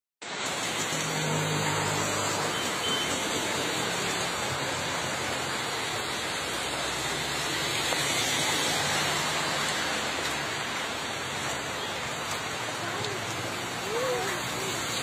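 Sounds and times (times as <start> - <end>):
heavy rain on wet road: 0.2 - 15.0.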